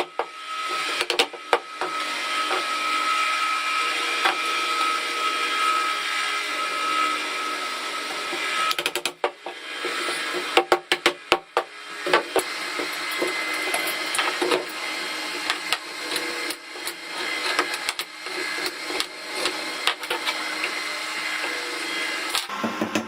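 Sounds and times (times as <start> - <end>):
power tool working wood: 0.0 - 23.0.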